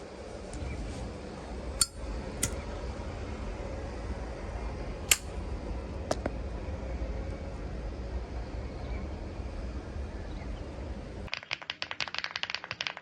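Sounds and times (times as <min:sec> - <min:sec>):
low room hum: 0:00.0 - 0:12.7.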